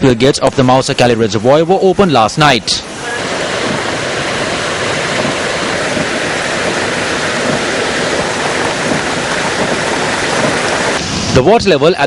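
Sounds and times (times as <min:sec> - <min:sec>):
water rushing through spill gates: 0:00.0 - 0:12.0.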